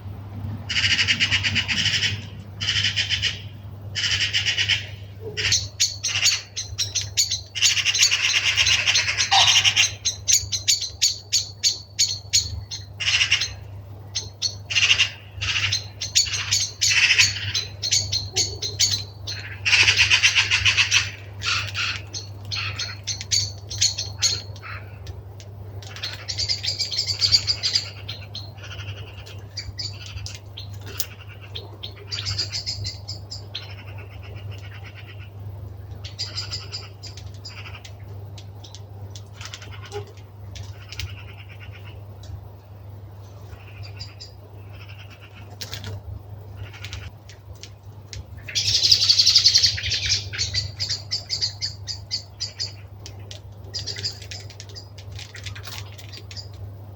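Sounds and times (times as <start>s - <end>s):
birds chattering: 0.0s - 56.9s
steady low hum: 0.0s - 56.9s.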